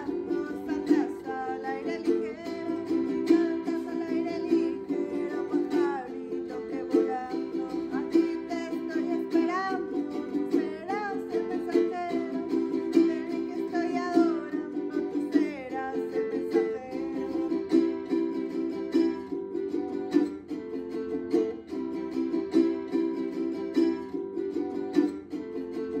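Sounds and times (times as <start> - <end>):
person singing: 0.0 - 26.0
plucked string instrument strumming: 0.0 - 26.0.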